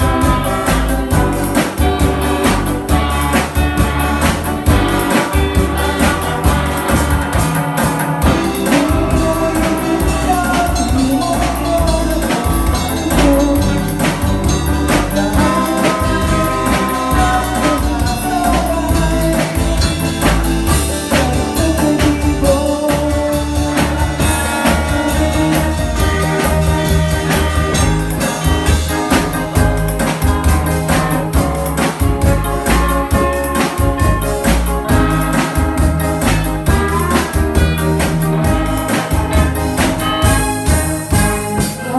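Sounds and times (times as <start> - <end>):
bass guitar: 0.0 - 41.9
drum kit beat: 0.0 - 41.9
electric guitar: 0.0 - 41.9.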